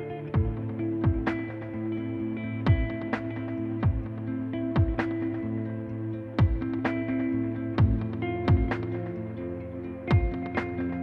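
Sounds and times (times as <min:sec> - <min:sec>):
held chords: 0:00.0 - 0:11.0.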